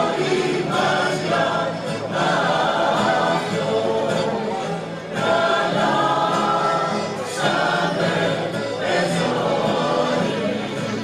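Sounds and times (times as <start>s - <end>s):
accordion: 0.0s - 11.0s
guitar: 0.0s - 11.0s
mixed choir singing: 0.0s - 11.0s.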